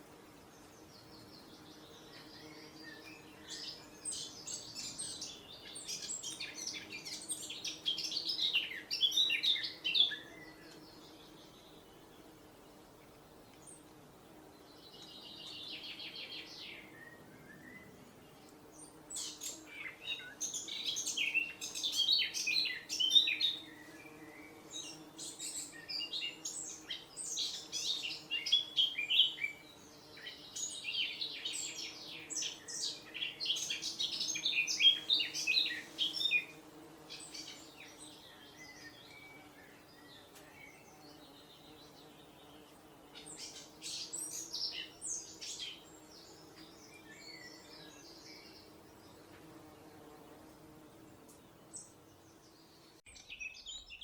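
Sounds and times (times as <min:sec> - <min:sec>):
songbird singing: 0:00.3 - 0:54.0.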